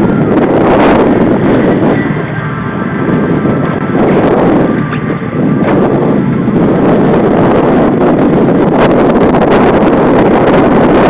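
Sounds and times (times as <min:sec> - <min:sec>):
boat rushing through choppy water: 0:00.0 - 0:11.0
wind buffeting microphone: 0:00.0 - 0:11.0.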